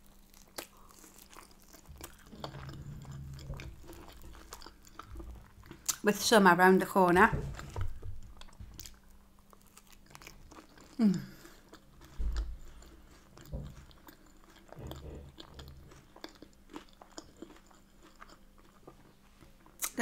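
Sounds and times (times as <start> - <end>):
wet chewing: 0.0 - 6.1, 7.4 - 20.0.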